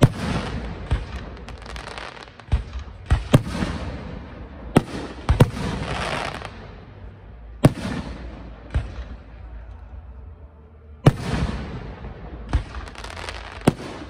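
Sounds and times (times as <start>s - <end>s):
fireworks bangs: 0.0s - 6.8s, 7.4s - 9.5s, 11.1s - 14.0s
fireworks crackling: 0.0s - 9.4s, 11.1s - 14.0s.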